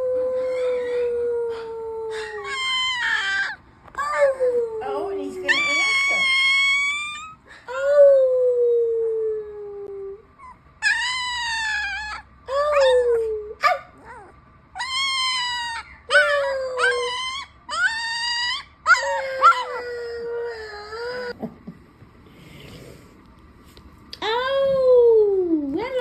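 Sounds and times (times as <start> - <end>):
puppy howling: 0.0 - 21.4.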